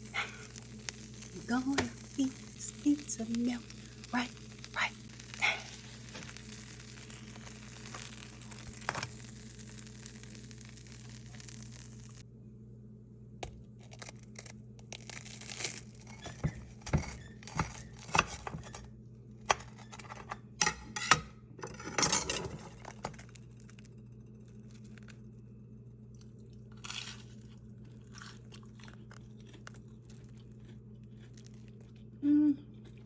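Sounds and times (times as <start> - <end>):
crunching of toasted sandwich: 0.0 - 12.2, 13.6 - 17.9, 22.8 - 33.0
steady low hum: 0.0 - 33.0.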